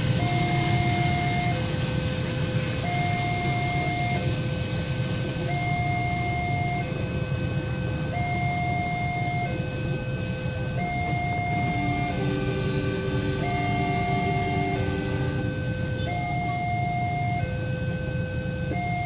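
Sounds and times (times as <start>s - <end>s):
low rumble of traffic: 0.0s - 19.0s
two-tone electronic warning siren: 0.0s - 19.0s.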